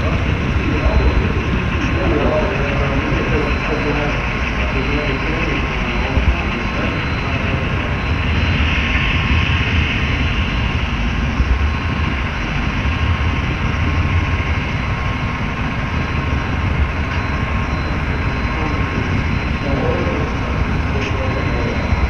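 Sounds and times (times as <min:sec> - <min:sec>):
thin steady whine: 0:00.0 - 0:22.0.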